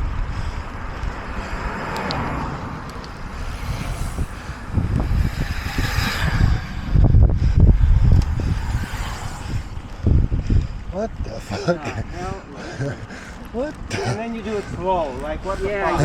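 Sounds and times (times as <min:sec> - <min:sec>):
road traffic passing: 0:00.0 - 0:16.0
wind rumbling on microphone: 0:00.0 - 0:16.0.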